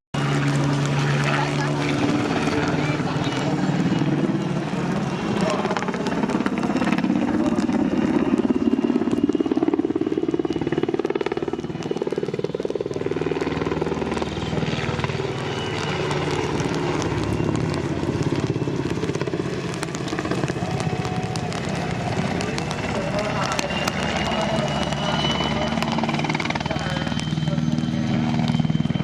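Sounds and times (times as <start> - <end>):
helicopter rotor chop: 0.2 - 29.0
turbine engine noise: 0.2 - 29.0.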